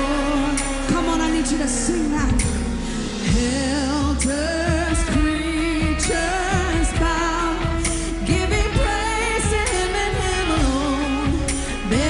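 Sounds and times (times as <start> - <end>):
band accompaniment: 0.0 - 12.0.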